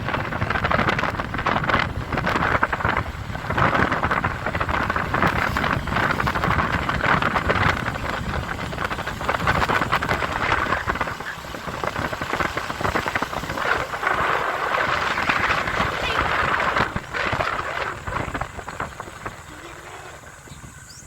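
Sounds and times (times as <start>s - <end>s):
vehicle engine and road noise: 0.0s - 21.0s
wind rushing over microphone: 0.0s - 21.0s.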